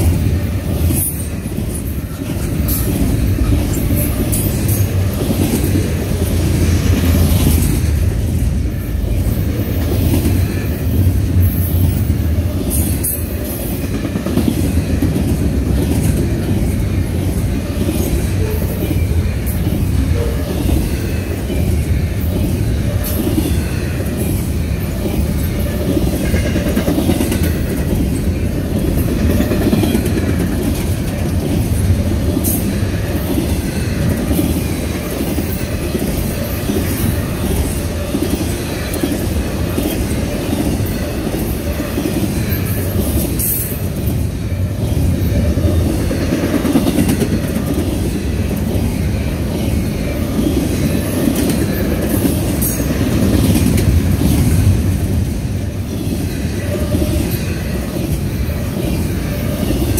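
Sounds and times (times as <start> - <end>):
freight train wheels clacking: 0.0 - 59.9.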